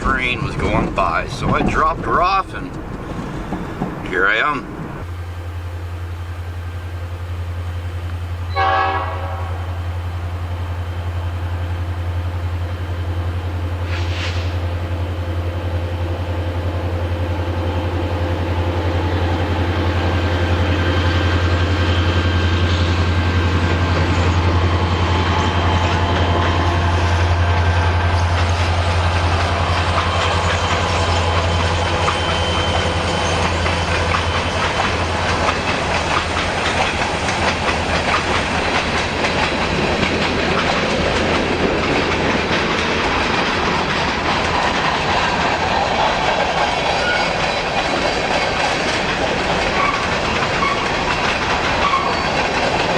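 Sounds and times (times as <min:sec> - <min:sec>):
freight train wheels clacking: 0:00.0 - 0:05.1, 0:08.0 - 0:52.9.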